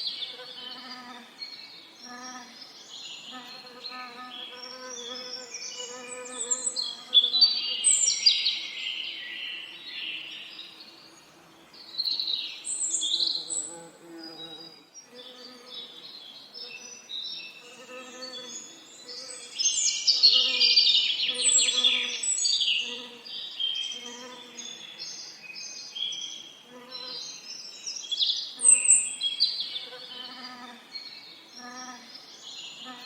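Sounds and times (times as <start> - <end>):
songbirds chorus: 0.0 - 33.0.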